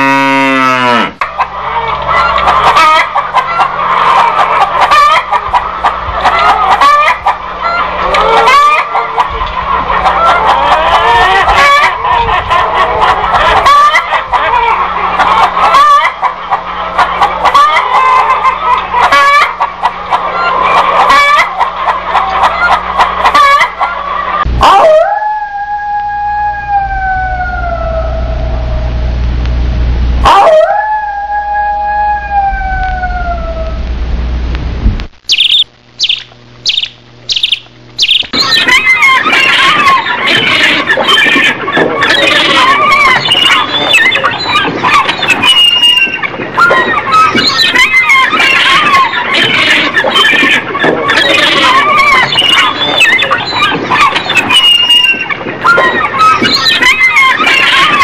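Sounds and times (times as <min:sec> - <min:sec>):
chickens clucking and squawking: 0:00.0 - 0:28.8, 0:30.2 - 0:33.9, 0:35.3 - 0:58.0
animal howling: 0:00.0 - 0:29.1, 0:30.2 - 0:33.9, 0:38.0 - 0:58.0.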